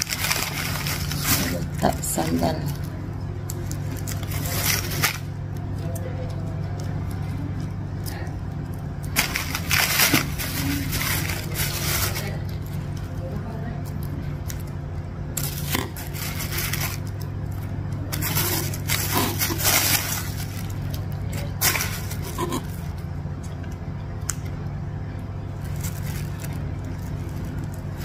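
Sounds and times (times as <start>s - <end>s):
plastic bag crinkling: 0.0s - 7.3s, 8.0s - 23.1s, 25.5s - 28.0s
steady low hum: 0.0s - 28.0s.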